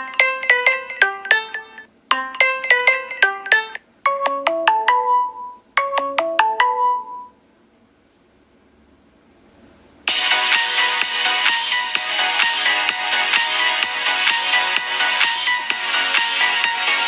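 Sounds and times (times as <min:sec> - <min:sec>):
phone ringtone tune: 0:00.0 - 0:07.4, 0:10.1 - 0:17.0.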